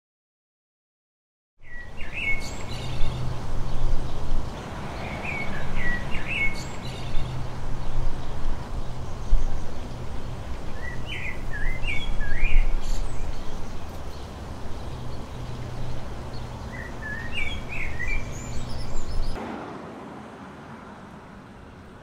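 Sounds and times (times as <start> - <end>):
birds chirping: 1.6 - 19.4.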